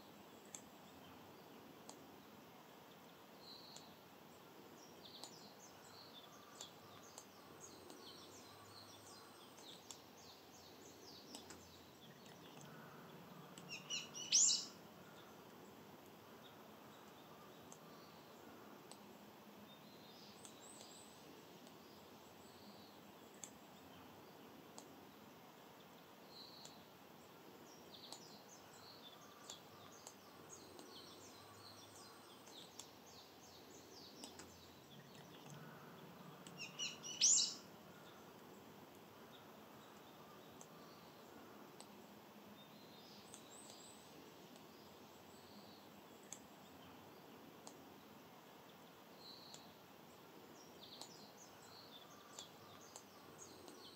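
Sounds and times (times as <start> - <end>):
faint background noise: 0.0 - 53.9
small birds chirping and singing: 0.0 - 53.9.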